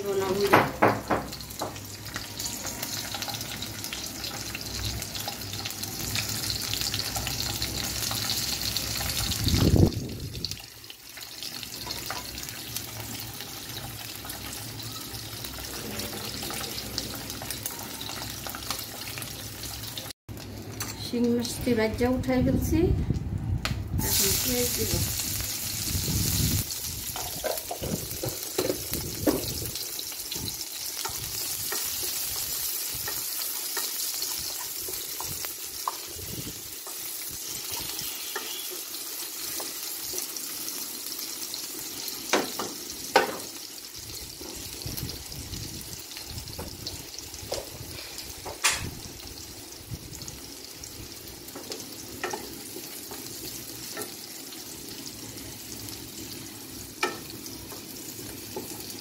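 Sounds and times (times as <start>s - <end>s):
onions sizzling in oil: 0.0s - 22.8s, 23.9s - 59.0s.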